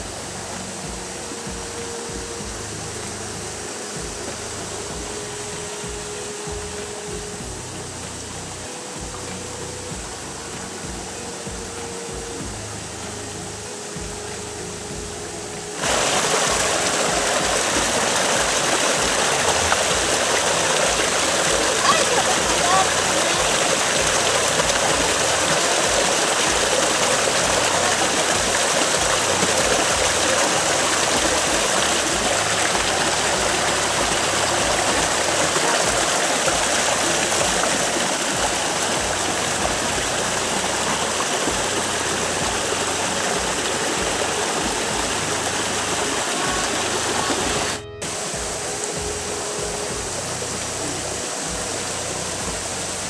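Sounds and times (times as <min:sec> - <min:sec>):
stream water rushing over rocks: 0:00.0 - 0:53.0.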